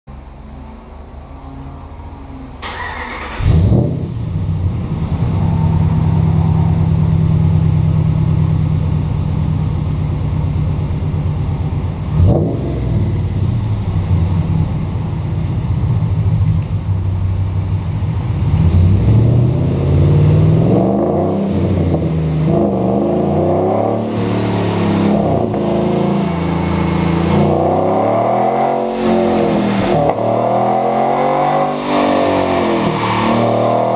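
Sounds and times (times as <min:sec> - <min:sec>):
truck engine starting and revving: 0:01.2 - 0:09.7, 0:11.4 - 0:33.9.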